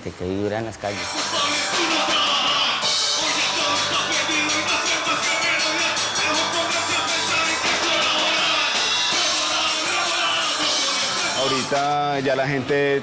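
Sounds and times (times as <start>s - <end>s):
punk rock music: 0.8s - 13.0s
fast drum beat: 0.9s - 12.6s
crashing cymbals: 1.0s - 12.0s
person singing: 1.0s - 12.0s.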